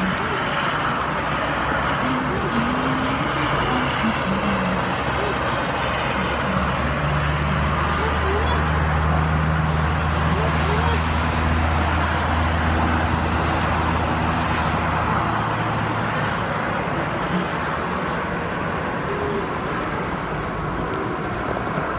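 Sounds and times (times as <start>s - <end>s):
hiss of passing cars: 0.0s - 21.9s
vehicle engine hum: 0.0s - 21.9s.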